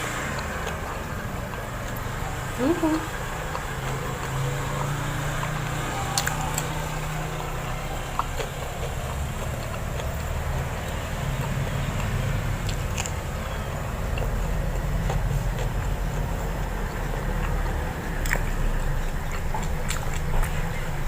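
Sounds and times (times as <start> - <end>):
chewing mouth sounds: 0.0 - 21.0.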